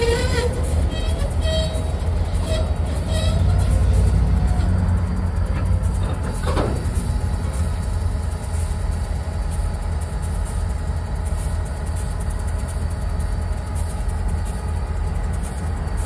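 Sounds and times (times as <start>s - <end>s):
locomotive engines idling: 0.0s - 16.0s.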